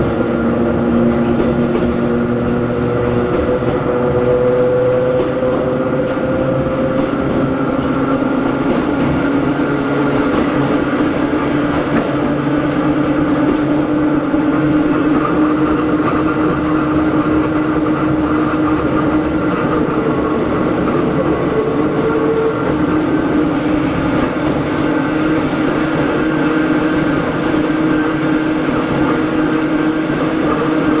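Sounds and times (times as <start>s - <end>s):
train motors humming: 0.0s - 31.0s
wheel and rail noise: 0.0s - 31.0s.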